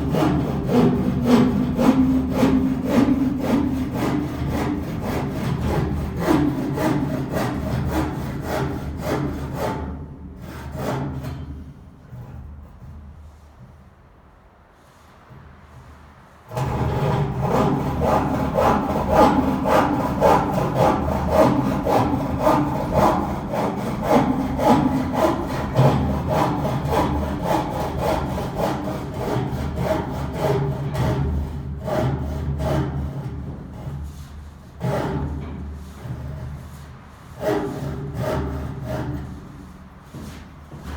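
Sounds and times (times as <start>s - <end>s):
hand saw cutting wood: 0.0s - 11.8s, 16.5s - 40.9s.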